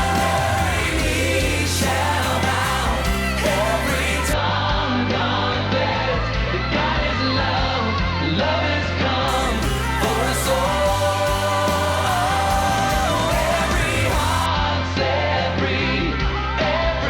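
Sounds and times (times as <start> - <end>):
song with singing: 0.0 - 17.0.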